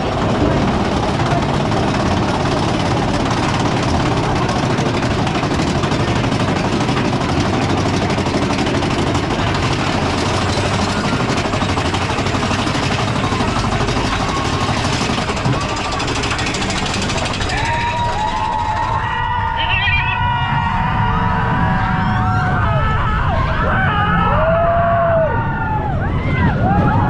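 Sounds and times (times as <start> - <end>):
roller coaster lift chain clatter: 0.0 - 22.8.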